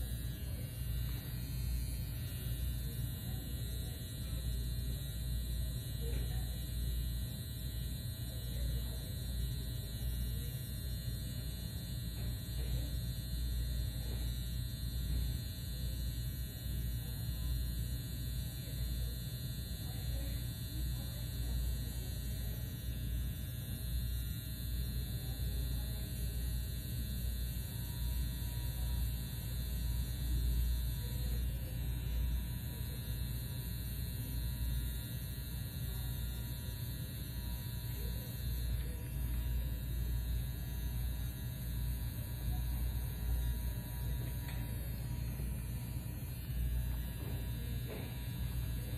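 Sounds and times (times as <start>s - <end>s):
tattoo machine buzzing: 0.0s - 48.9s.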